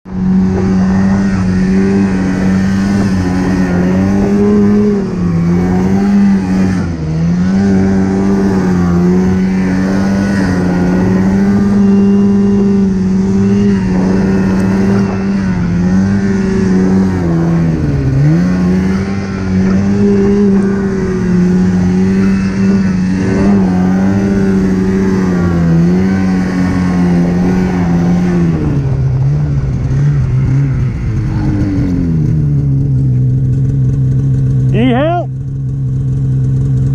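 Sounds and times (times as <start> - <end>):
snowmobile engine running hard: 0.1 - 36.9.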